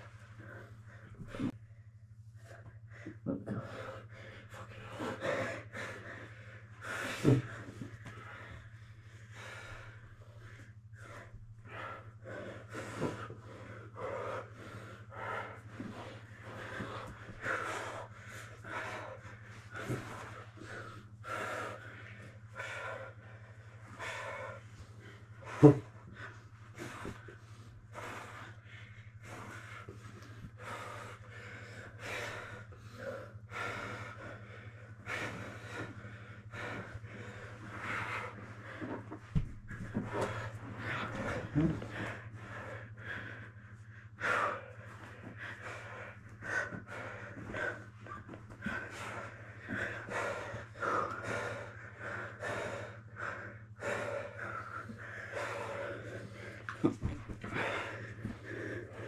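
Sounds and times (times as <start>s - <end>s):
heavy breathing: 0.0s - 59.0s.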